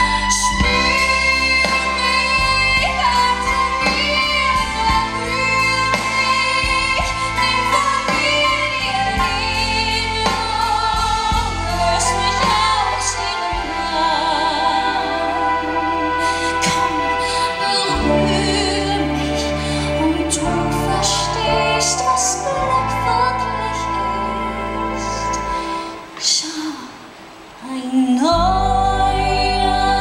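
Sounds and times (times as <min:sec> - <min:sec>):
live band with drums and bass: 0:00.0 - 0:26.0
woman singing into a microphone: 0:00.0 - 0:27.0, 0:27.6 - 0:30.0.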